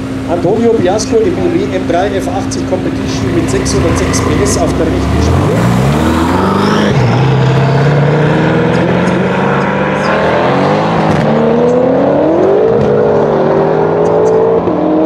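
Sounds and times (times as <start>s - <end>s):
cars accelerating hard: 0.0s - 15.0s.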